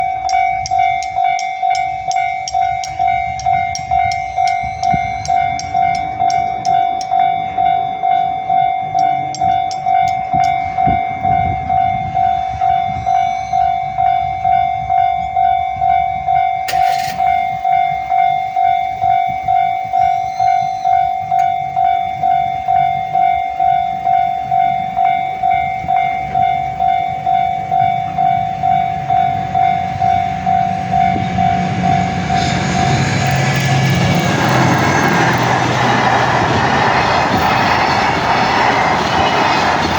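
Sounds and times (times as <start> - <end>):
train wheel clicks: 0.0 - 7.5, 8.8 - 11.0, 16.6 - 39.9
level crossing warning bell: 0.0 - 39.9
train rumble: 0.0 - 39.9.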